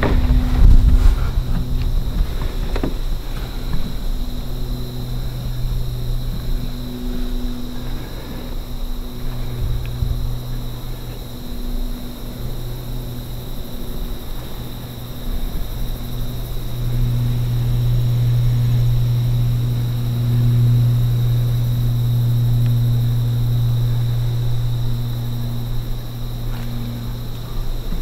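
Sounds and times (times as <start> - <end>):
distant engine droning: 0.0 - 28.0.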